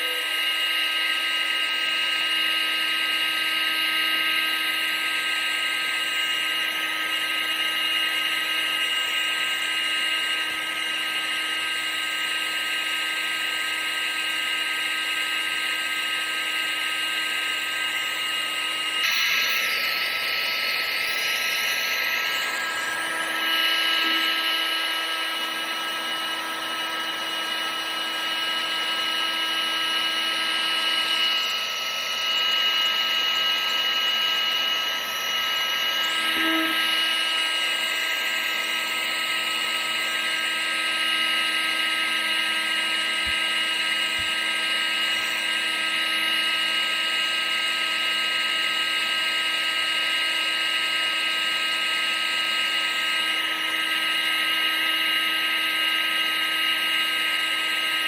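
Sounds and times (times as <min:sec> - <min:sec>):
appliance motor whining: 0:00.0 - 0:58.0.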